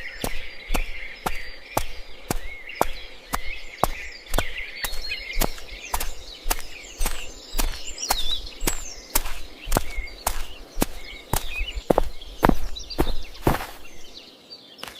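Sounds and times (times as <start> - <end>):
sharp footsteps: 0.0 - 14.2
birds chirping: 0.0 - 14.9.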